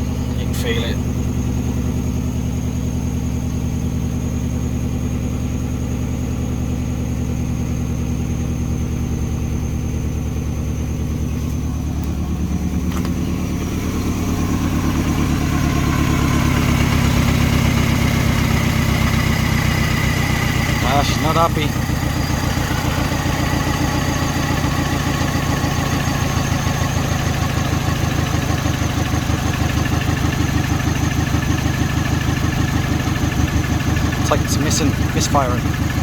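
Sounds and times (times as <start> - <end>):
car engine idling roughly: 0.0 - 36.0.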